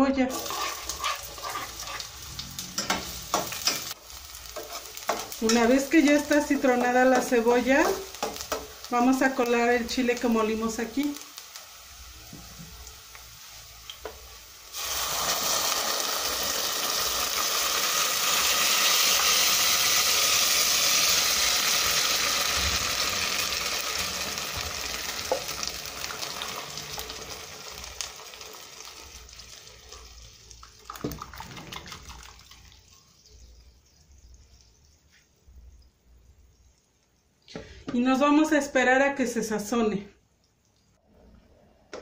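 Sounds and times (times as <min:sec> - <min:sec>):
onion frying: 0:00.0 - 0:40.8
sauce sizzling in hot oil: 0:00.1 - 0:37.2.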